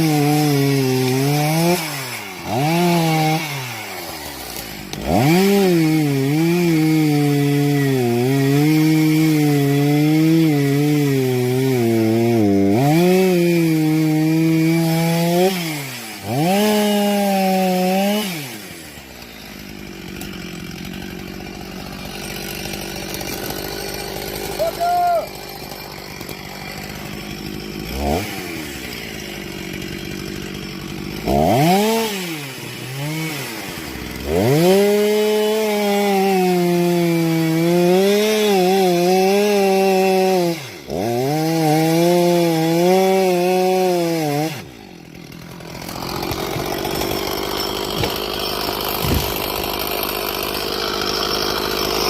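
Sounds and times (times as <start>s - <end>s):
chainsaw revving and cutting: 0.0s - 52.0s.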